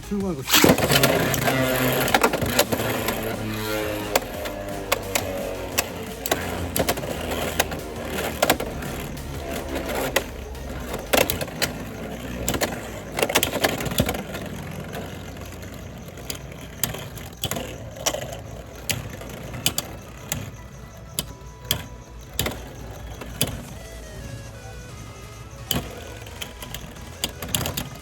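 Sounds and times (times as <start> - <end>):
spinning top hum: 0.0 - 28.0
spinning tops clacking together: 0.1 - 24.0.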